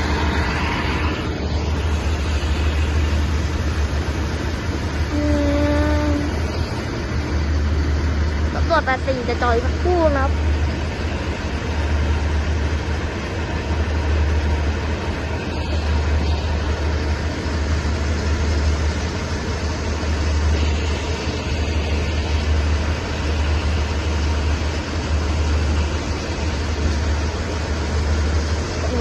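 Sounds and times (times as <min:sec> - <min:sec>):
machinery hiss: 0:00.0 - 0:29.0
train diesel engines idling: 0:00.0 - 0:29.0.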